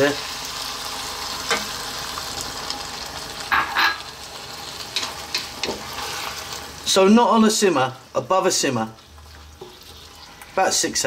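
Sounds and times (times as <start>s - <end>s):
chili sizzling in a frying pan: 0.0s - 11.0s.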